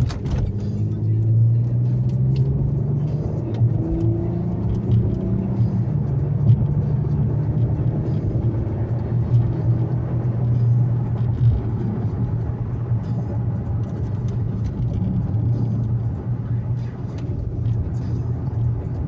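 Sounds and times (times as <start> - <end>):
car engine droning: 0.0 - 19.0
road noise: 0.0 - 19.0.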